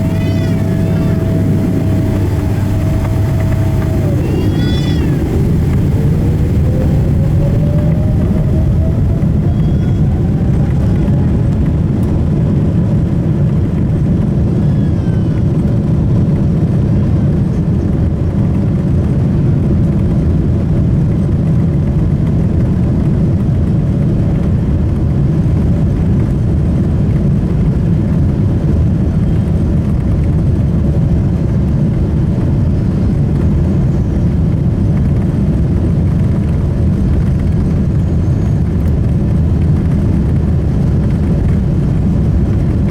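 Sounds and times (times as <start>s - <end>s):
jet engine rumble in cabin: 0.0s - 42.9s.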